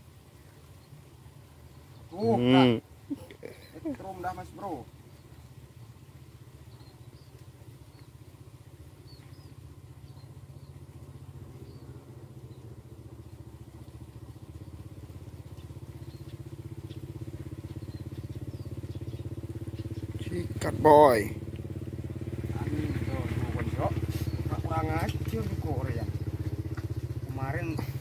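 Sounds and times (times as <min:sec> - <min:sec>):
motorcycle engine running: 0:04.6 - 0:28.0.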